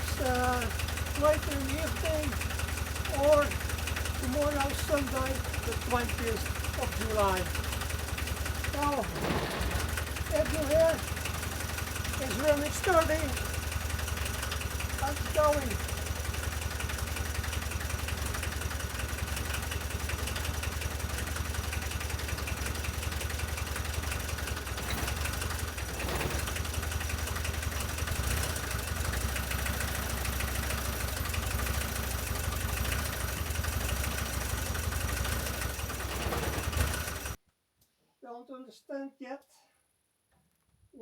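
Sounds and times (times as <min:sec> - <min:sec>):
diesel engine idling: 0:00.0 - 0:37.4.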